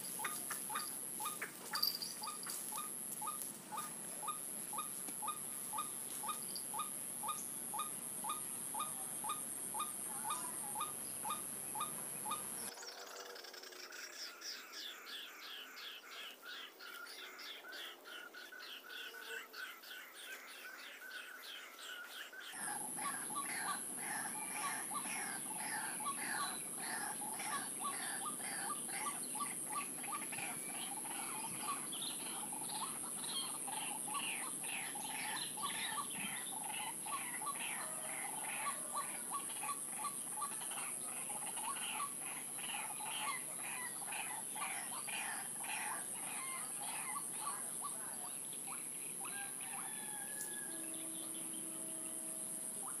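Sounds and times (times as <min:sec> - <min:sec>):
bird calls played from recording: 0:00.0 - 0:53.0.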